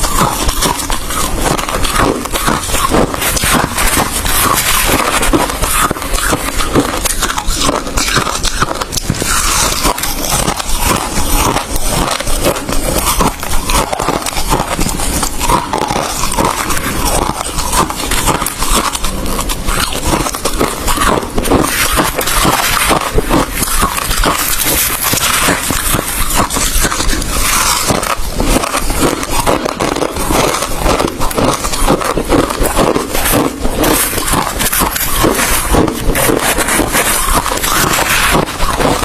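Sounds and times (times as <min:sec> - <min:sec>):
person chewing ice: 0:00.0 - 0:39.0.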